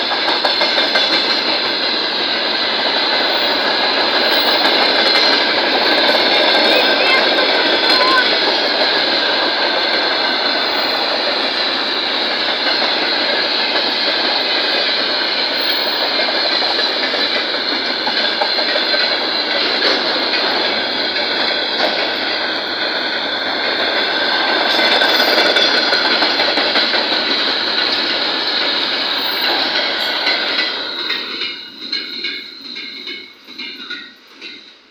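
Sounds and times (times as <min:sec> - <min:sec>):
train wheels clattering on rails: 0:00.0 - 0:34.9.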